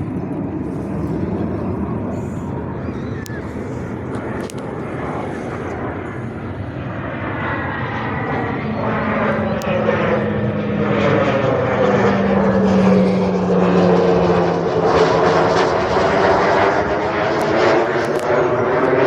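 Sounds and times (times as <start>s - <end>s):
propeller plane drone: 0.0s - 19.0s.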